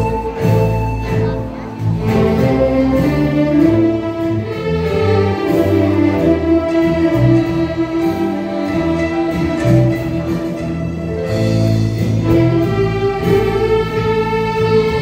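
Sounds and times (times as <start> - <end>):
band music with long held notes: 0.0 - 15.0
bass notes: 0.0 - 15.0.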